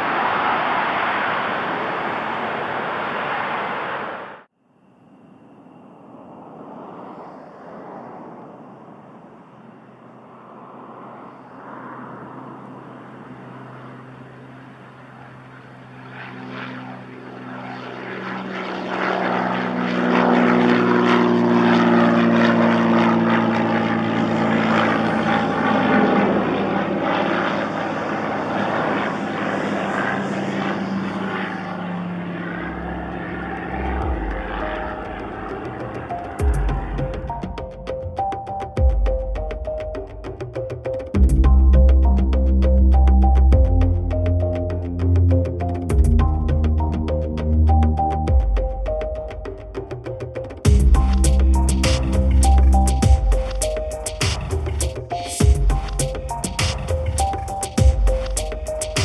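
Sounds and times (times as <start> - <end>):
propeller airplane passing: 0.0 - 59.0.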